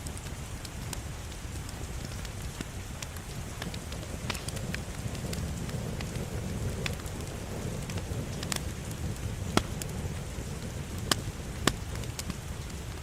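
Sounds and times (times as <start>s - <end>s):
wood fire crackling: 0.0s - 13.0s
sharp pops of fire: 0.1s - 13.0s.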